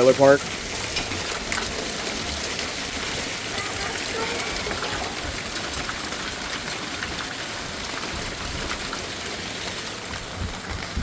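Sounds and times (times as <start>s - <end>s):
heavy rain pouring: 0.0s - 11.0s
raindrops ticking on surfaces: 0.0s - 11.0s.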